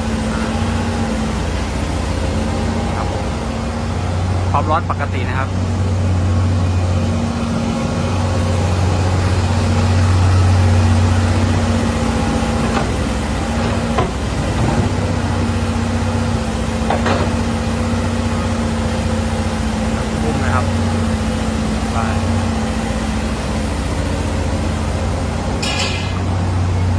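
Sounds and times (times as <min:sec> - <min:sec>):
excavator diesel engine humming: 0:00.0 - 0:26.9.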